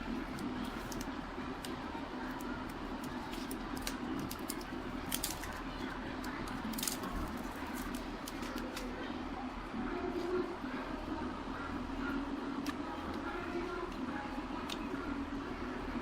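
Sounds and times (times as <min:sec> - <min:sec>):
fan humming: 0:00.0 - 0:16.0.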